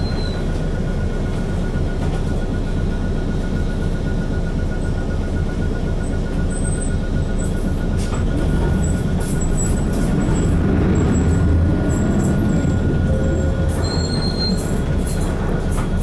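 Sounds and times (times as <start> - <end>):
bus diesel engine droning: 0.0 - 16.0
road noise: 0.0 - 16.0.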